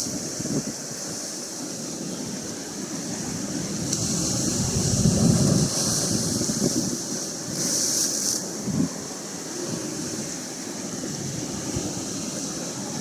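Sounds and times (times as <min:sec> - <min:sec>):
ocean surf washing in: 0:00.0 - 0:13.0
wind rumbling on microphone: 0:00.0 - 0:13.0.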